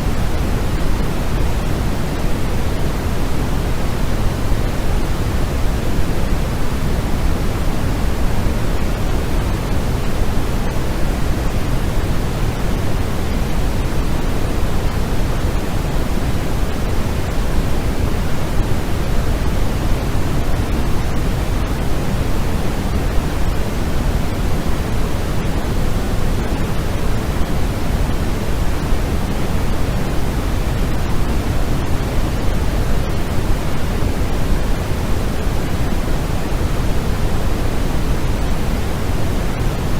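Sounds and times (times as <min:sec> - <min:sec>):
steady pink noise: 0:00.0 - 0:39.9.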